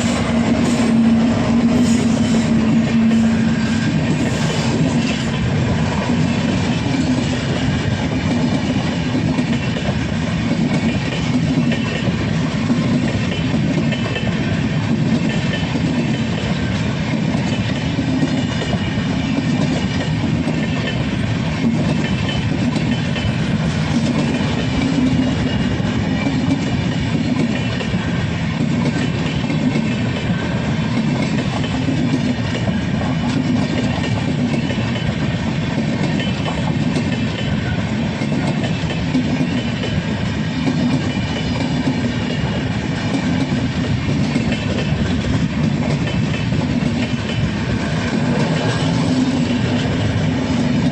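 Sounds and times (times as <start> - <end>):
train rumbling past on track: 0.0 - 50.9.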